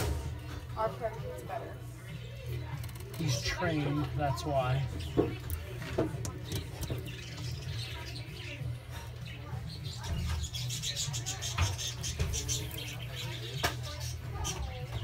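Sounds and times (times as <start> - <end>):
birds chirping: 0.5 - 15.0.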